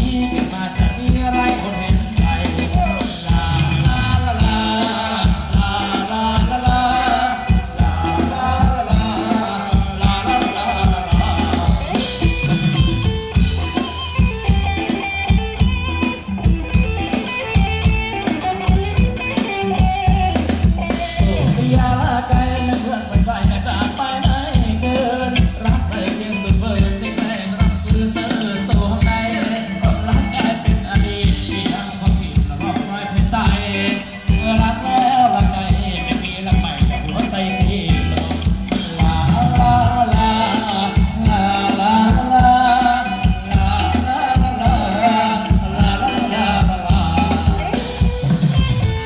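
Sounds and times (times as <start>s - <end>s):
person singing: 0.0s - 49.0s
steady drum beat: 0.0s - 49.0s.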